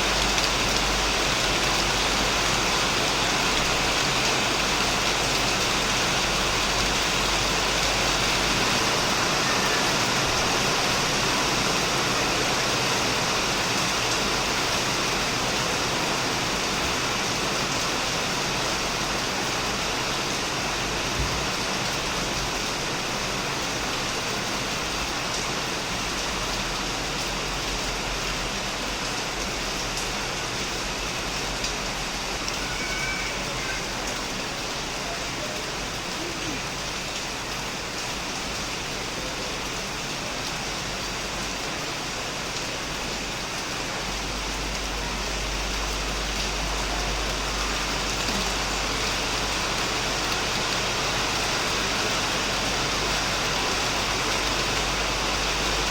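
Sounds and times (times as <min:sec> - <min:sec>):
heavy rain on a shed roof: 0:00.0 - 0:55.9.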